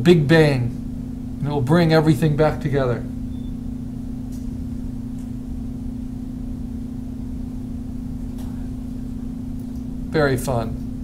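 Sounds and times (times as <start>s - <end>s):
low electrical hum: 0.0s - 11.0s
low rumbling hiss: 0.0s - 11.0s.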